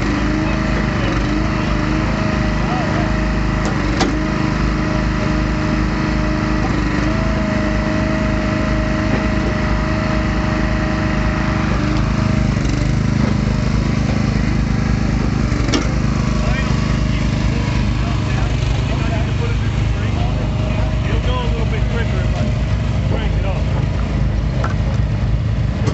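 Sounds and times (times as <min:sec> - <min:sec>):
small gasoline engine running: 0:00.0 - 0:25.9.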